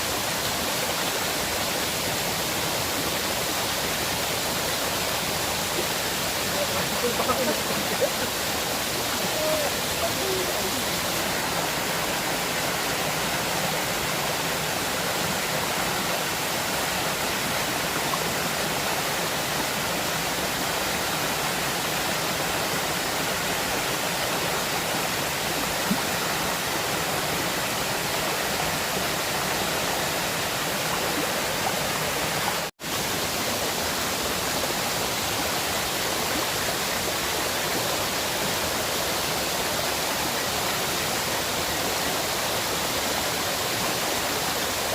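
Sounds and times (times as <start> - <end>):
river water rushing: 0.0 - 44.9.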